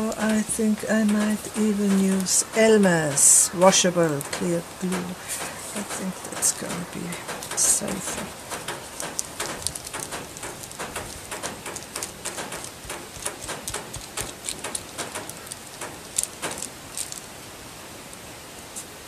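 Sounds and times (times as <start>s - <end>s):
paper and glue bottle crackling: 0.2s - 17.3s.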